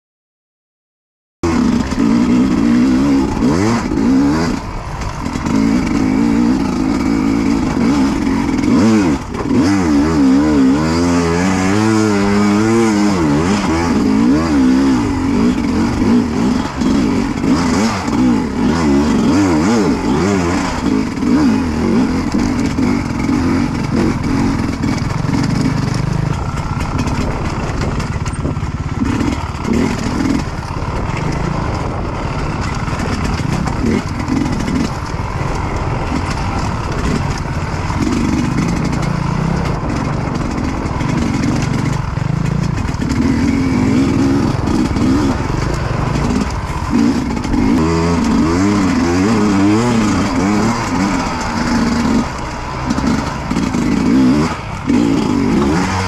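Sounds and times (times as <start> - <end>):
dirt bike engine revving: 1.4 - 56.0.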